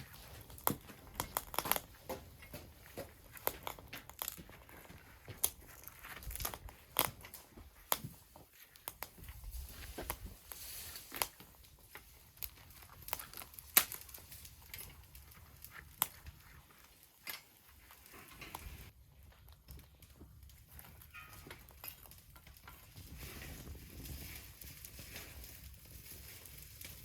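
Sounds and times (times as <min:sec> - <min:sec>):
sharp pops of burning wood: 0:00.0 - 0:18.9, 0:19.5 - 0:27.0
twigs crackling in wood stove: 0:00.0 - 0:27.0.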